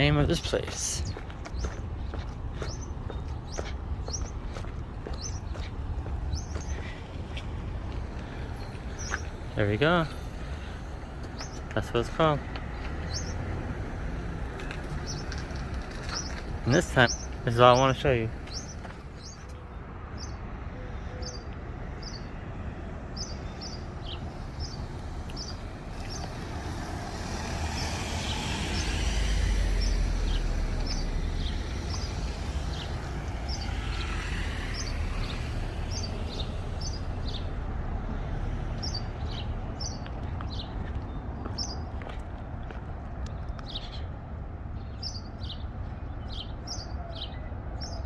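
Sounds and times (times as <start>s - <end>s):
vehicle passing: 0.0s - 43.3s
traffic hum: 0.0s - 48.0s.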